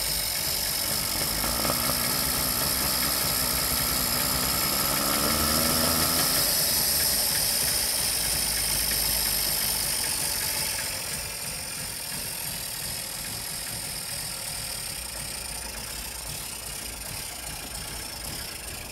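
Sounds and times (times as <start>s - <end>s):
two-stroke engine idling: 0.0s - 18.9s.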